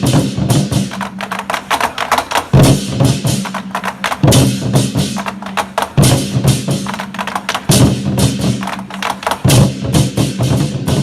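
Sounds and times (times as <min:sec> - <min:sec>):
war drums beaten rapidly: 0:00.0 - 0:11.0.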